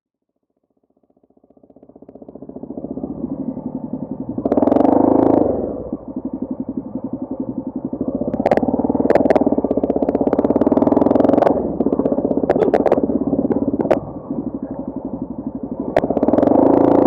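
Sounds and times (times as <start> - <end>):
vehicle engine pulsing: 0.6 - 17.0.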